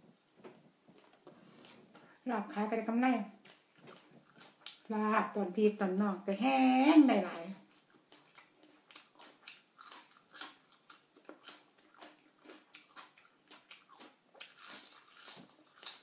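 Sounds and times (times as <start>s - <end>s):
person chewing and crunching food: 0.1s - 5.5s, 7.6s - 16.0s.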